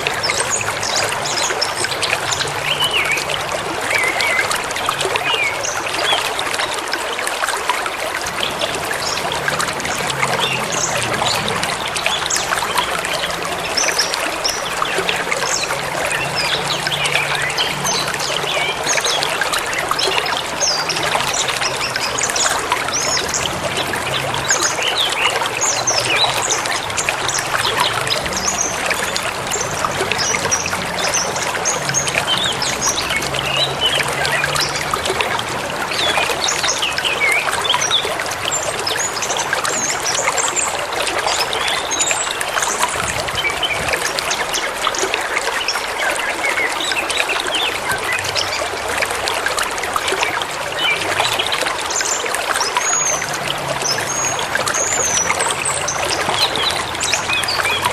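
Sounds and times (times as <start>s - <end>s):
stream flowing over stones: 0.0s - 57.9s.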